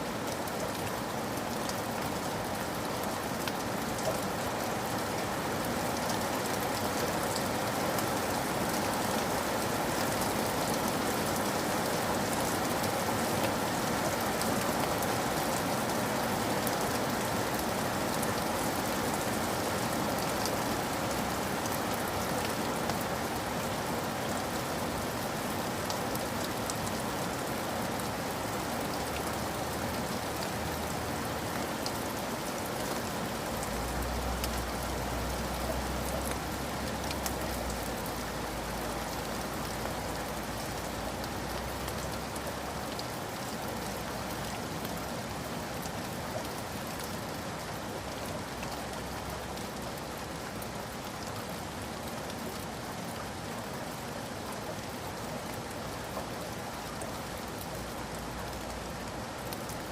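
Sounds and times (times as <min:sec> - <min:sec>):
steady rain pattering: 0:00.0 - 0:59.9.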